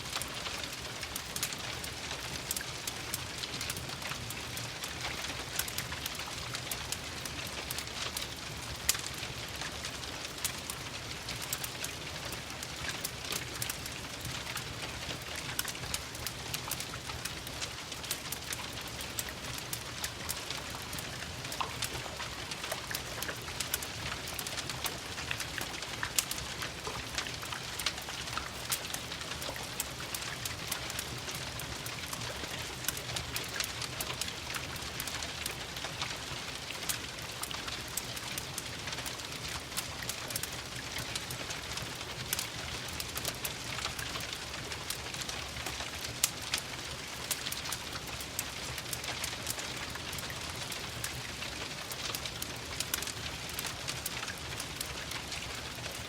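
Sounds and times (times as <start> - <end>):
steady rain patter: 0.0 - 56.0
wood fire crackling: 0.0 - 56.0.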